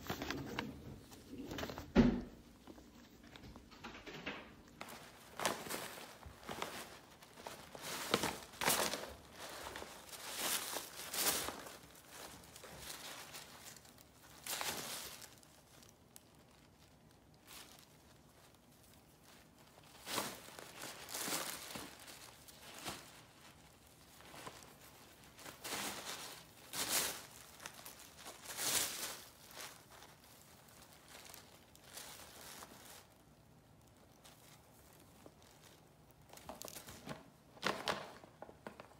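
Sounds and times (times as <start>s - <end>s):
paper and foil bag rustling: 4.6s - 38.9s.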